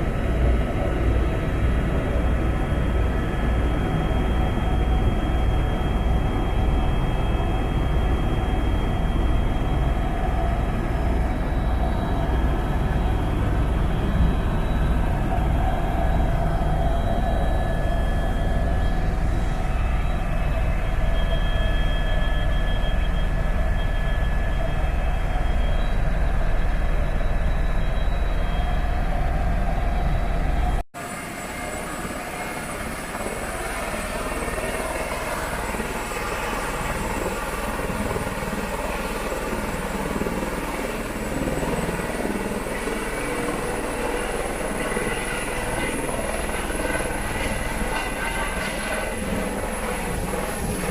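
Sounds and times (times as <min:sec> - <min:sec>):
helicopter rotor and turbine drone: 0:00.0 - 0:50.9
turbine whine: 0:00.0 - 0:50.9.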